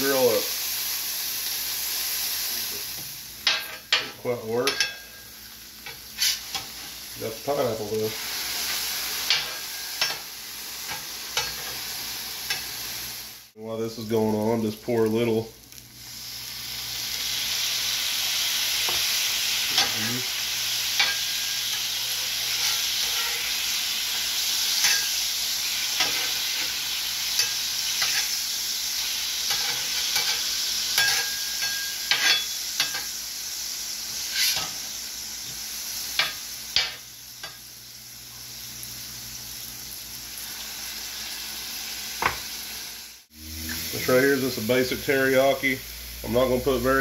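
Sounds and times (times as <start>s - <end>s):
juice sizzling on griddle: 0.0s - 47.0s.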